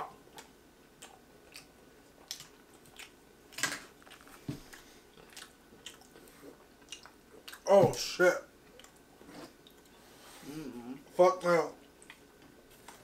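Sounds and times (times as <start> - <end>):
person chewing: 0.3 - 7.7, 8.6 - 11.1, 11.8 - 13.0.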